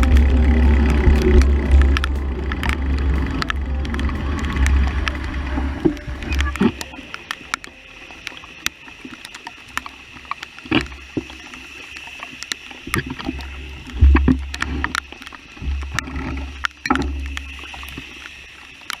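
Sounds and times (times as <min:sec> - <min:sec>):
raindrops ticking on surface: 0:00.0 - 0:19.0.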